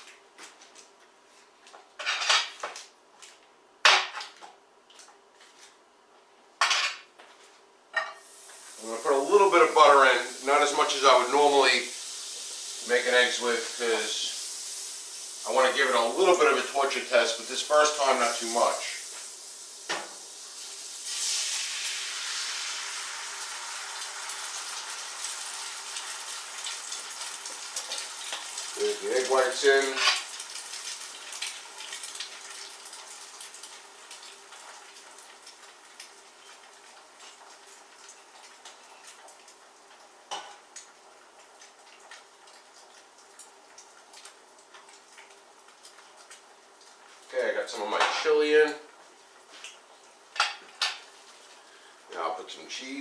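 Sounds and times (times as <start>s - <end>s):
egg whites sizzling in a pan: 8.0s - 53.0s.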